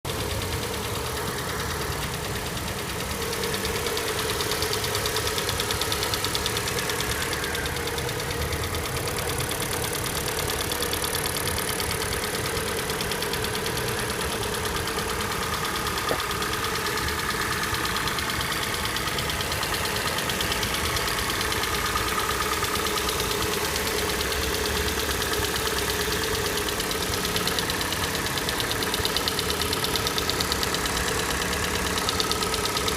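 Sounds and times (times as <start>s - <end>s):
car engine idling with knock: 0.1s - 32.9s.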